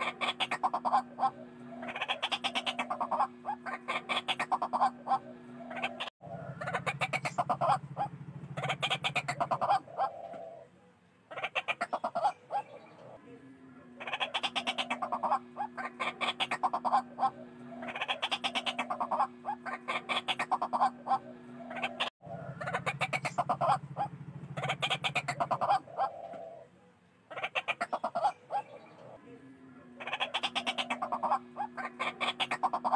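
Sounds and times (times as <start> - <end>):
bird harsh repeated calls: 0.0 - 13.2, 13.9 - 29.2, 29.9 - 32.9.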